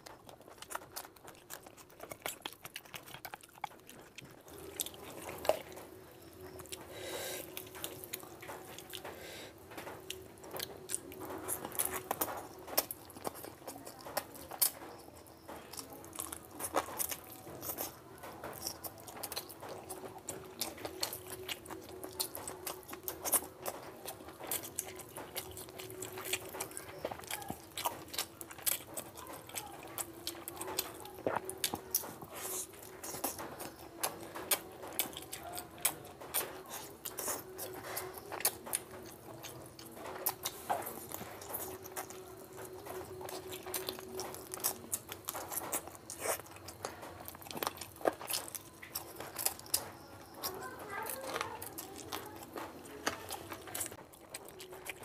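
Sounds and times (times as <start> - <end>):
person biting and chewing food: 0.0 - 55.0.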